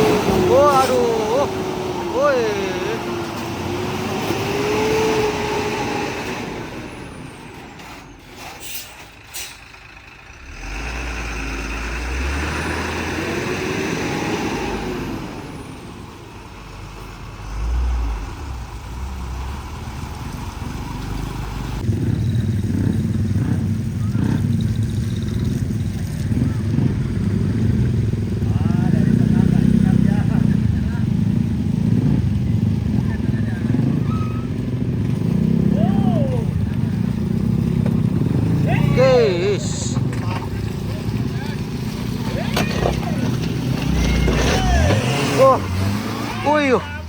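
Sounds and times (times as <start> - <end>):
heavy truck engines passing: 0.0 - 47.0.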